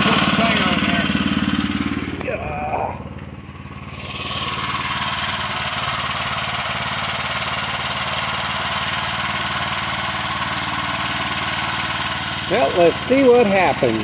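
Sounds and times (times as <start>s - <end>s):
small gas engine running: 0.0s - 14.0s.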